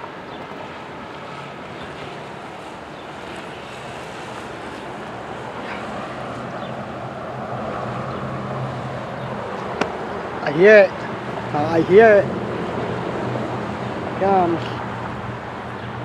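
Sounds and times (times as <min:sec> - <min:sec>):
distant motor vehicles rumbling: 0:00.0 - 0:16.0.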